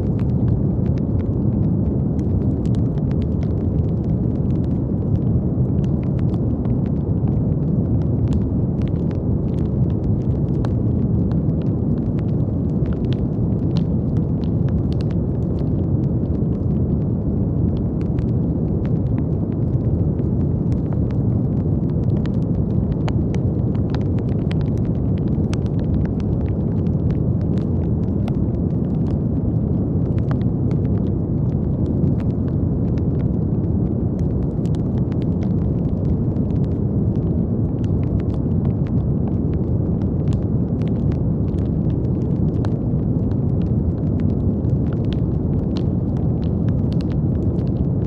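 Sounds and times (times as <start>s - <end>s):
brown noise rumble: 0.0s - 48.0s
faint crackles: 0.0s - 48.0s.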